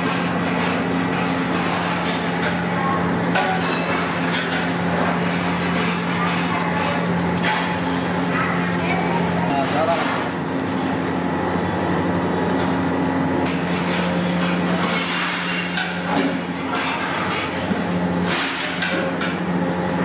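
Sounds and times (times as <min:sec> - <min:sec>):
low kitchen hum: 0:00.0 - 0:20.0.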